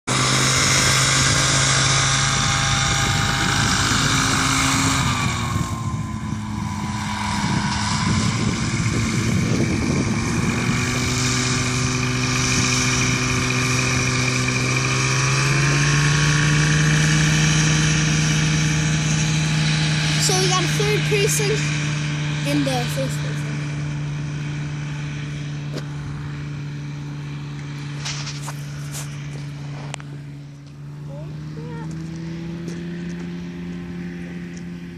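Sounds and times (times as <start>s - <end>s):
light aircraft engine and propeller: 0.0s - 34.9s.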